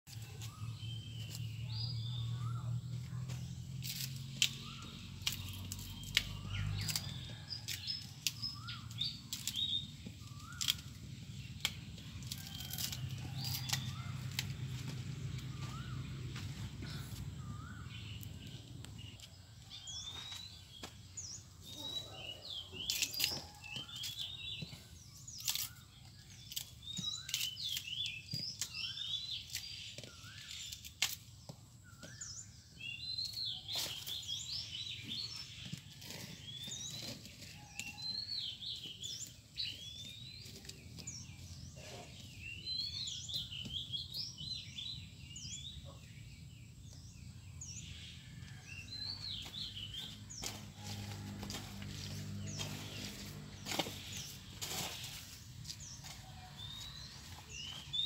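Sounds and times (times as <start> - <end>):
birds chirping: 0.1 - 58.0.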